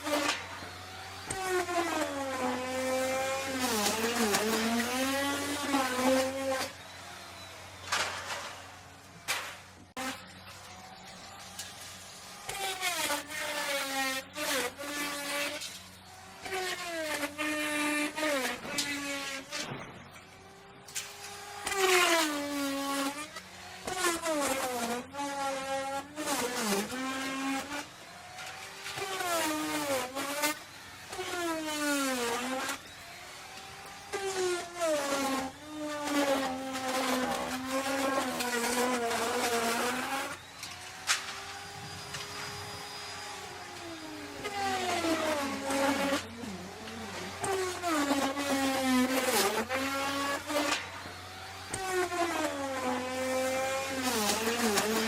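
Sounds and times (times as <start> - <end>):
wood router cutting: 0.0 - 55.0.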